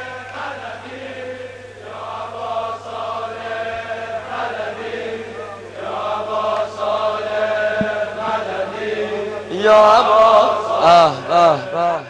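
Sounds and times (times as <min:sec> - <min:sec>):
men chanting together: 0:00.0 - 0:12.0
steady low drone: 0:00.0 - 0:12.0.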